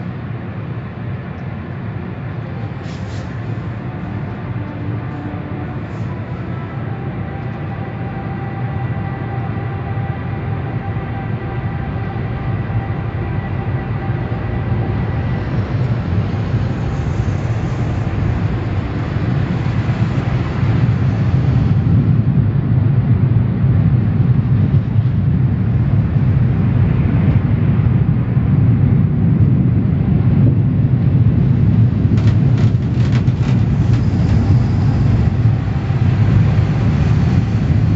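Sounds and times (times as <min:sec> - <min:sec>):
car wash low rumble: 0:00.0 - 0:37.9.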